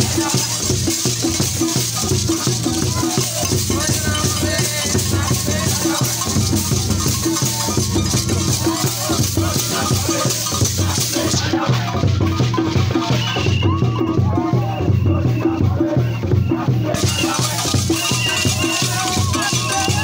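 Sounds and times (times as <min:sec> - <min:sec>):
shaken rattle: 0:00.0 - 0:13.6, 0:16.9 - 0:20.0
fast drumming: 0:00.0 - 0:20.0.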